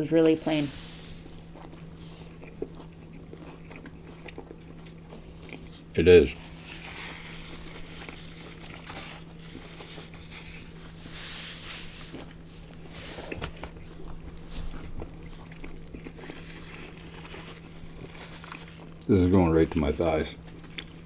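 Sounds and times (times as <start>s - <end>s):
steady low hum: 0.0s - 21.0s
chewing and biting food: 1.1s - 21.0s.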